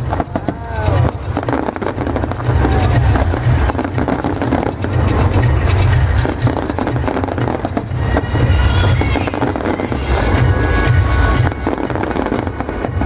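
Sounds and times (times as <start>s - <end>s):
fireworks booming: 0.0s - 13.0s
fireworks crackling: 0.0s - 13.0s
fireworks whistling: 0.0s - 13.0s.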